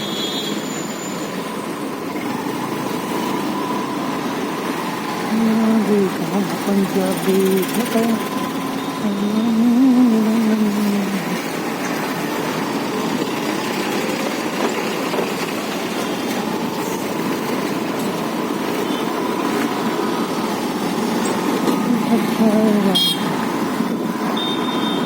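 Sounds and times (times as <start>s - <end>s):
scooter engine: 0.0s - 25.0s
tyre road noise: 0.0s - 25.0s.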